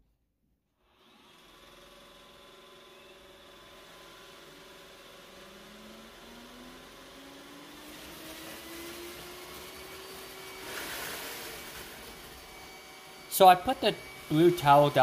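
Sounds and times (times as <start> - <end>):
robot vacuum suction: 0.9 - 15.0
faint motor tone: 1.1 - 15.0.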